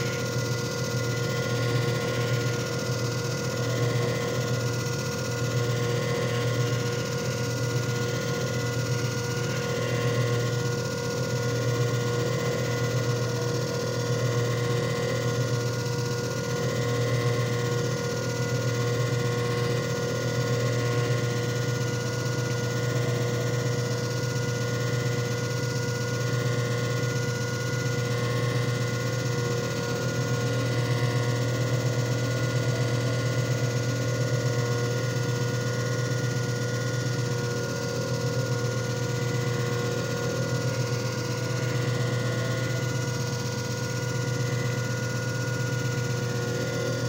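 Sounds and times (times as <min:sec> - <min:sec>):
machine motor humming and whining: 0:00.0 - 0:47.0.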